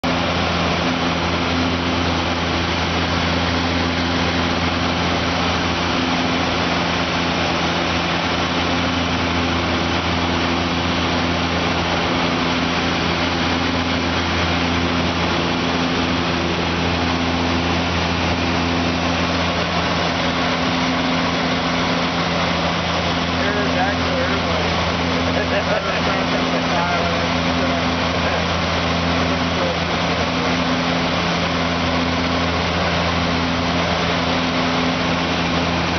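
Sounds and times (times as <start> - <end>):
propeller plane cabin drone: 0.0 - 35.9.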